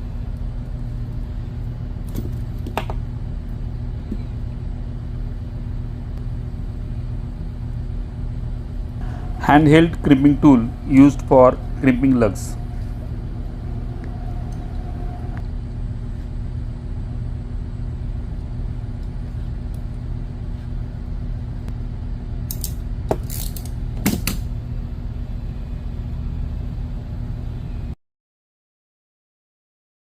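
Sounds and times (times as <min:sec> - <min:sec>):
low machinery hum: 0:00.0 - 0:28.0.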